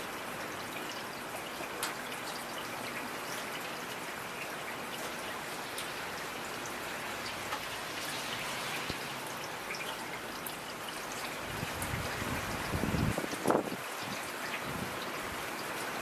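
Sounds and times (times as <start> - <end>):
raindrops pattering on surface: 0.0 - 16.0
steady rain: 0.0 - 16.0.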